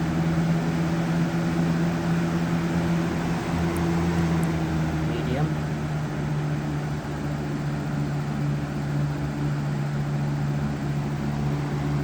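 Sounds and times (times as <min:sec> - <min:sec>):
box fan air rush and motor hum: 0:00.0 - 0:12.0.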